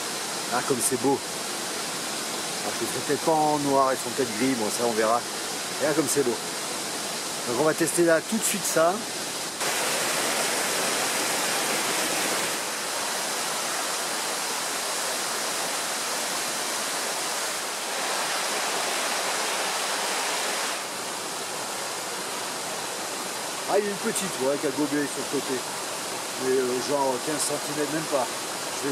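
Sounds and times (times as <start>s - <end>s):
stream rushing over rocks: 0.0s - 28.9s.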